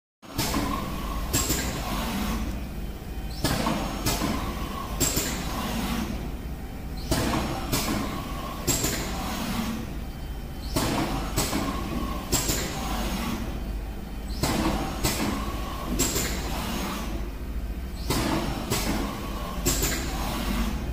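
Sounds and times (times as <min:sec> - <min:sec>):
steady low hum: 0:00.3 - 0:20.9
print carriage drive running: 0:00.4 - 0:20.9.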